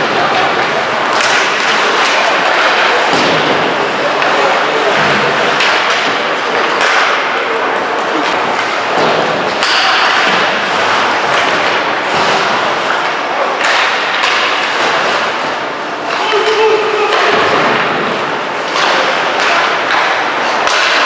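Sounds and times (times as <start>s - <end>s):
rink crowd noise with voices: 0.0s - 21.0s
hockey stick and puck knocks: 1.1s - 7.4s, 8.0s - 15.4s, 17.1s - 21.0s.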